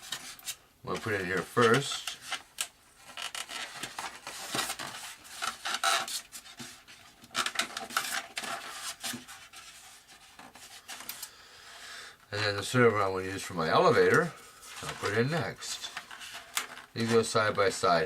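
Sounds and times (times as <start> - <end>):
rubbing and scraping on foam: 0.0 - 11.1, 13.6 - 18.0.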